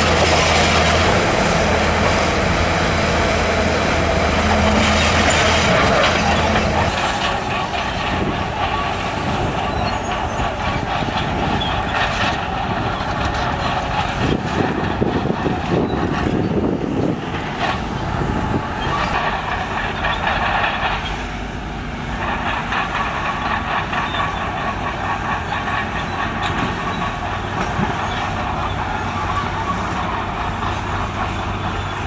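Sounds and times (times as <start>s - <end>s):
heavy construction machinery engines: 0.0s - 32.0s.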